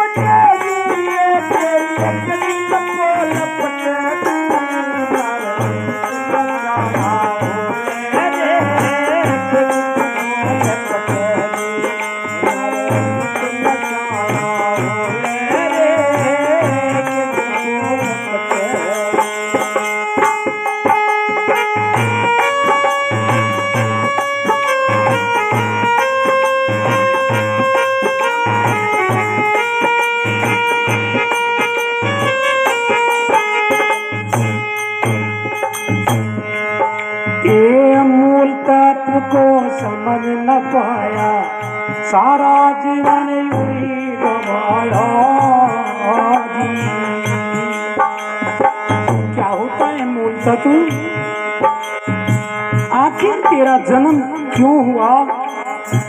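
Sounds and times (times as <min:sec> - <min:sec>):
hand drum beat: 0:00.0 - 0:37.8, 0:44.9 - 0:56.0
harmonium: 0:00.0 - 0:56.0.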